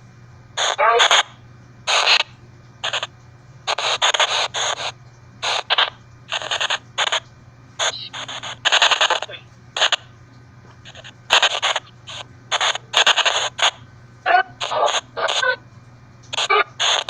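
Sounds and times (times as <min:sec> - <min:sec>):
faint low hum: 0:00.0 - 0:17.0
static bursts: 0:00.6 - 0:10.1, 0:10.8 - 0:15.6, 0:16.3 - 0:17.0.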